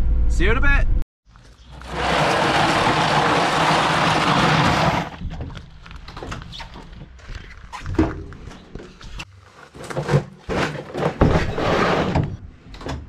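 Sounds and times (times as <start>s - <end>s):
scraping and rustling: 1.3s - 12.2s.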